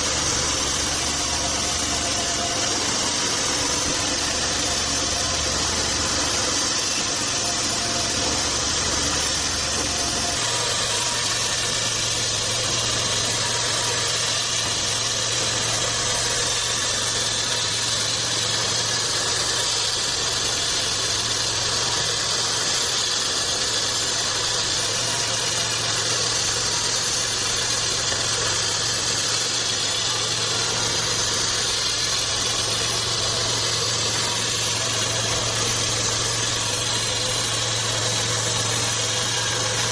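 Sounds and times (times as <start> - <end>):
saw hiss: 0.0 - 39.9
sawmill engine hum: 0.0 - 39.9.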